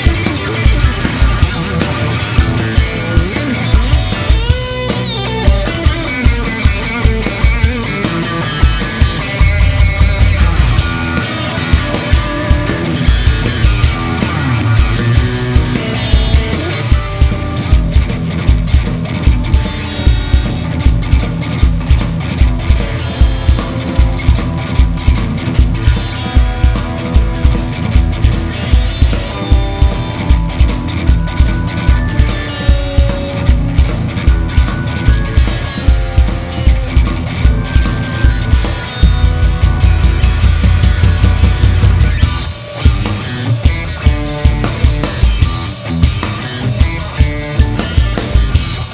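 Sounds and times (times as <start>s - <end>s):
bass guitar: 0.0s - 48.9s
electric guitar lead: 0.0s - 48.9s
steady drum beat: 0.0s - 48.9s.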